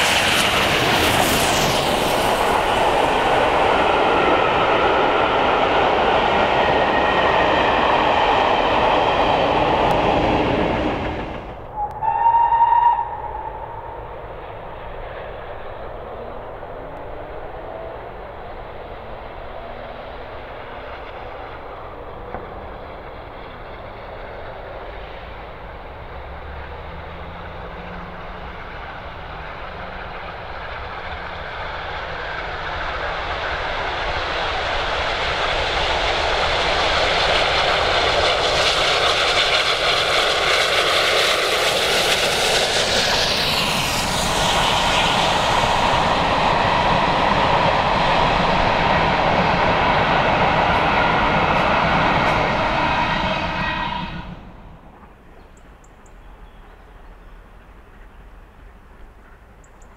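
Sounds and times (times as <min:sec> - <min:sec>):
steam train rumbling: 0:00.0 - 0:59.9.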